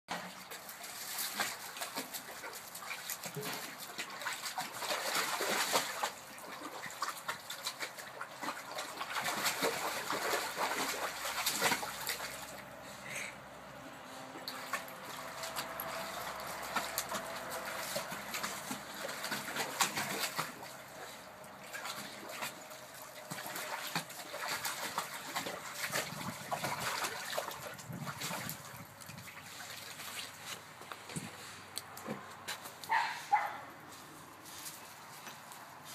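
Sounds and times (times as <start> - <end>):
water splashing in a pool: 0.1 - 12.8, 13.6 - 35.9.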